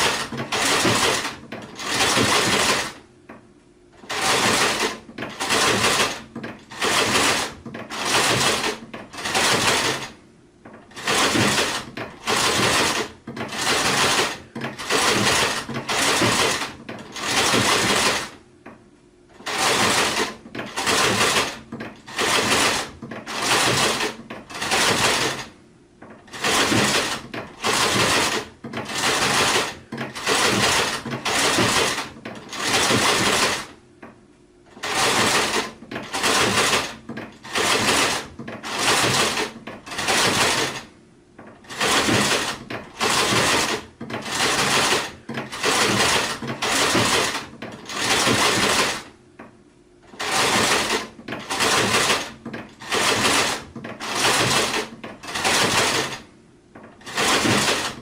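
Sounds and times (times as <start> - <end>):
sewing machine stitching: 0.0 - 3.1, 4.0 - 18.4, 19.3 - 33.8, 34.7 - 49.2, 50.0 - 58.0.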